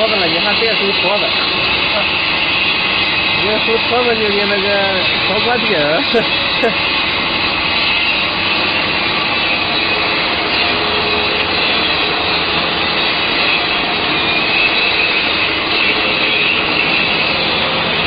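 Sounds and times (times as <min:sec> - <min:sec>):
machinery rushing noise with whine: 0:00.0 - 0:18.0.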